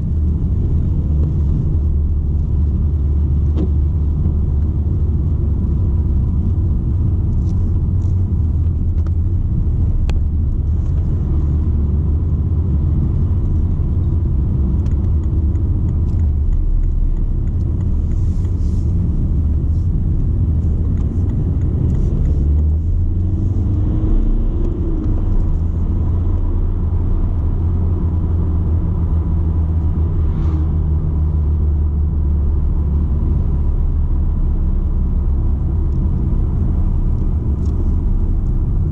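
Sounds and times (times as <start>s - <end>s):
car engine rumble: 0.0s - 38.9s
tyre and road noise: 0.0s - 38.9s.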